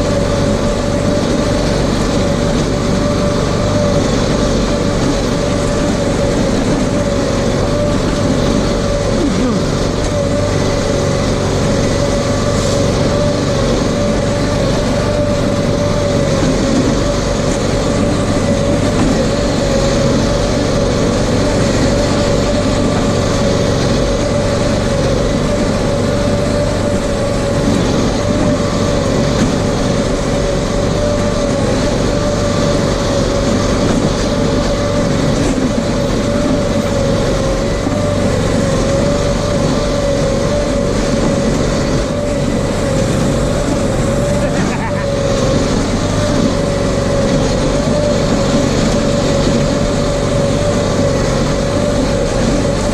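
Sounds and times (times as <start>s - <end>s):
off-road vehicle engine running: 0.0s - 52.9s
steady whine: 0.0s - 52.9s.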